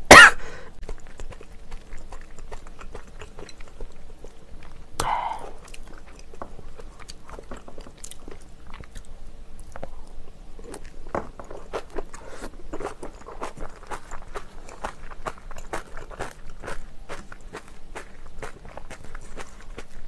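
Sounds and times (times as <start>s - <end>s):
wet chewing clicks: 0.8s - 20.0s.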